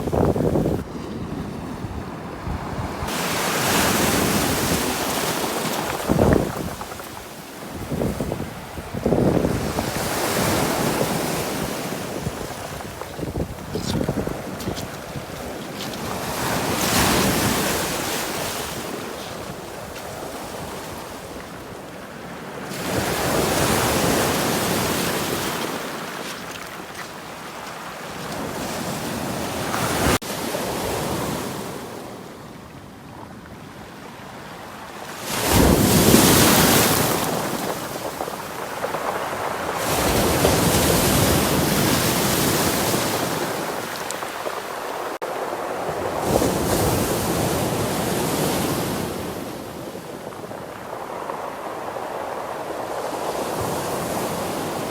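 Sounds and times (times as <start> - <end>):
waves breaking: 0.0 - 31.6, 35.3 - 54.9.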